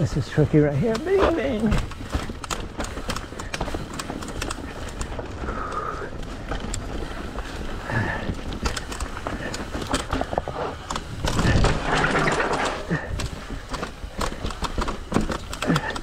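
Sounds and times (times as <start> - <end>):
bike rattling over rocks: 0.0 - 16.0.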